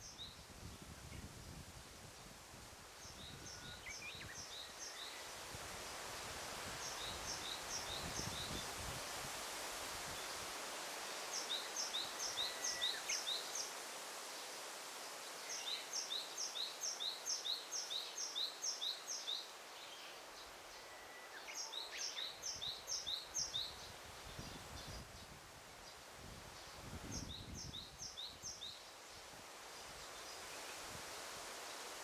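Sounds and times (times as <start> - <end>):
forest ambience hiss: 0.0 - 32.0.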